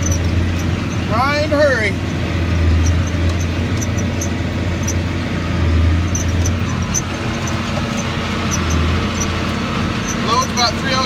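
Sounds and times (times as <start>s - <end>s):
tractor diesel engine drone: 0.0s - 11.0s.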